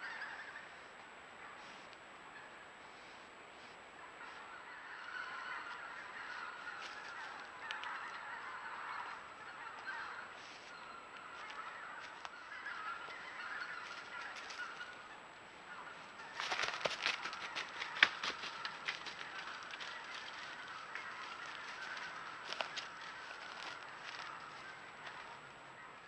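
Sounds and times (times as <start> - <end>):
flock of geese honking: 0.0 - 26.0.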